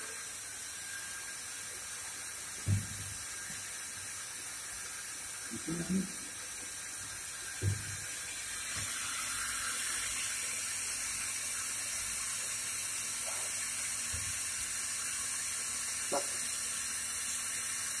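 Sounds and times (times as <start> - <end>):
milling machine hiss: 0.0 - 18.0.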